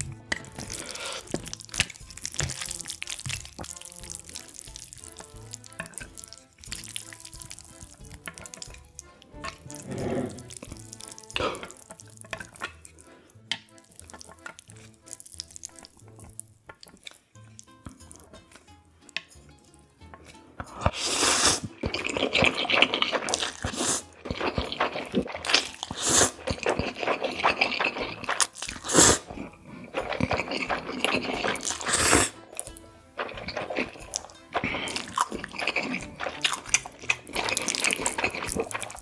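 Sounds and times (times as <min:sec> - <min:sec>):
faint background music: 0:00.0 - 0:39.0
wet squishing of noodles: 0:00.0 - 0:39.0.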